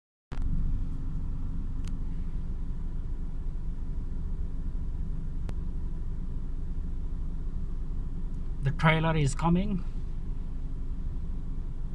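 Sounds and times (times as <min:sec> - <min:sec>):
car engine rumble inside cabin: 0:00.3 - 0:11.9
faint steady hum: 0:00.3 - 0:11.9.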